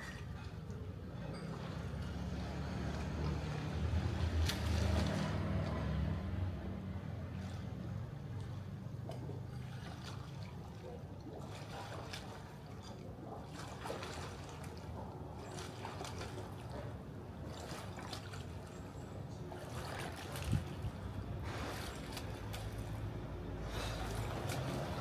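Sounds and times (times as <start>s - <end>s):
pool water splashing: 0.0s - 25.0s.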